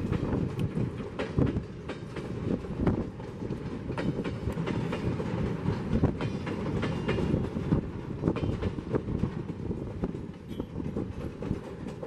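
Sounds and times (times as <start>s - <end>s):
train wheels rumbling on rail: 0.0s - 12.0s
wheels clacking over rail joints: 0.0s - 12.0s.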